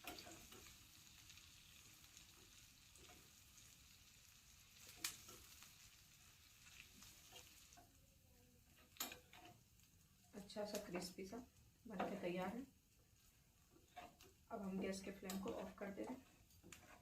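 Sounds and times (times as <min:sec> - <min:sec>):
spices sizzling in a pan: 0:00.0 - 0:17.0.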